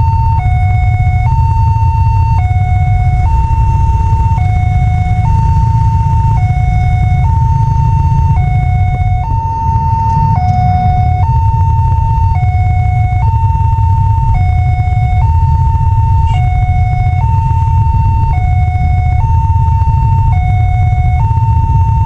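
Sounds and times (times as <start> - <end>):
loud low rumble: 0.0 - 21.4
electronic two-tone alarm: 0.0 - 22.0.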